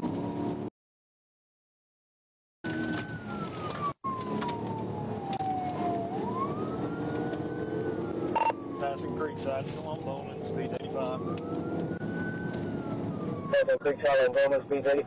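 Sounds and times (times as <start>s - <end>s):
car engine and road noise: 0.0s - 0.7s, 2.7s - 15.0s
police siren wailing: 2.7s - 14.9s.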